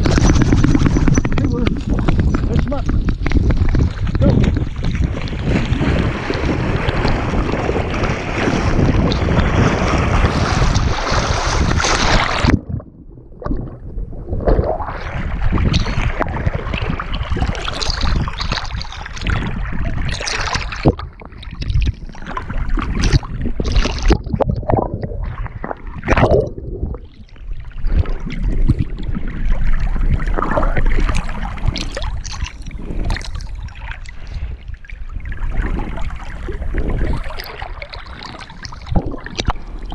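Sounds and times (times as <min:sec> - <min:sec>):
water rushing at microphone: 0:00.0 - 0:39.9
water splashing and gurgling: 0:00.0 - 0:39.9.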